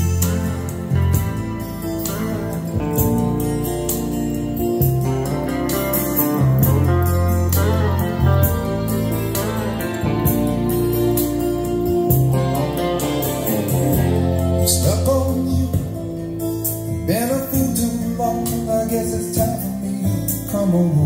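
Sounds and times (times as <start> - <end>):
guitar-led song through speakers: 0.0 - 21.0.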